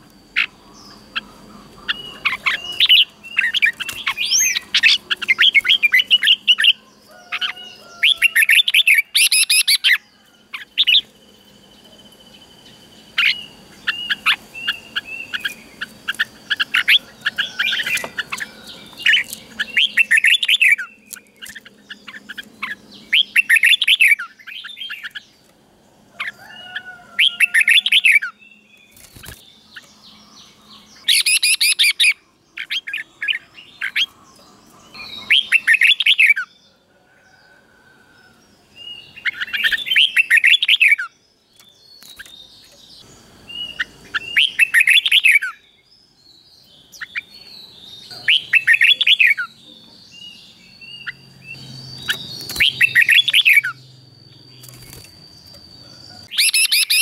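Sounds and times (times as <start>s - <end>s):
bulbul singing: 0.0s - 25.5s, 26.2s - 36.8s, 38.2s - 57.0s.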